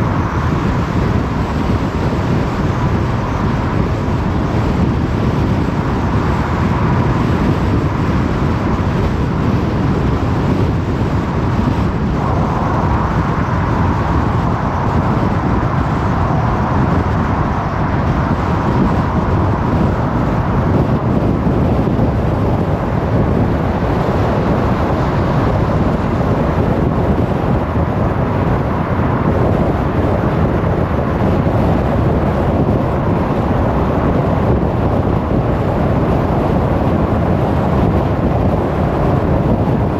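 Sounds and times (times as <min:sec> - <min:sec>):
car engine: 0:00.0 - 0:39.6
tyre and wind noise: 0:00.0 - 0:39.9.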